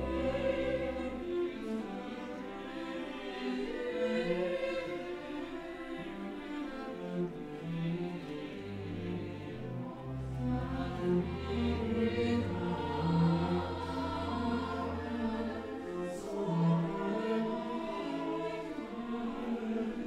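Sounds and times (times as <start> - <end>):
orchestra playing: 0.0 - 4.0, 7.3 - 19.8
mixed choir singing: 0.0 - 20.0.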